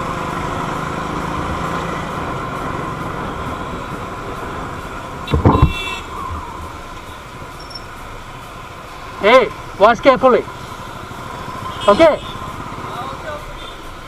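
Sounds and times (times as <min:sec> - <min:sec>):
motorcycle road and engine noise: 0:00.0 - 0:14.0.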